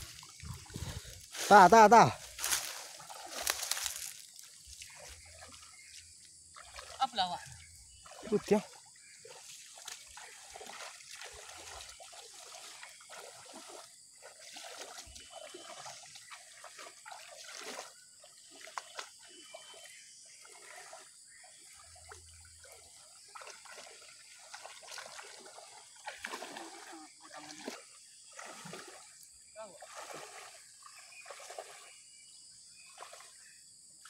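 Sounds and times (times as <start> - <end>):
muddy water sloshing: 0.0 - 34.0
small water splashes: 0.0 - 34.0.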